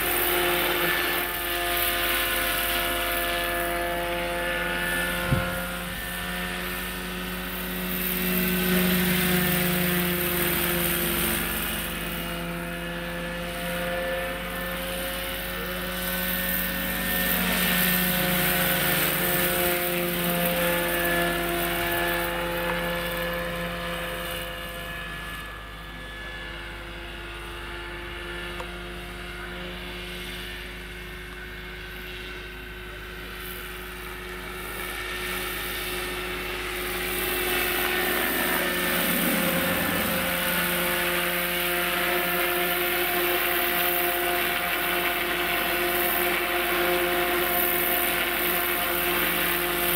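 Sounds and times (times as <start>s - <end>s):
rotor blades rushing: 0.0s - 29.3s, 33.3s - 49.9s
model helicopter motor whine: 0.0s - 49.9s.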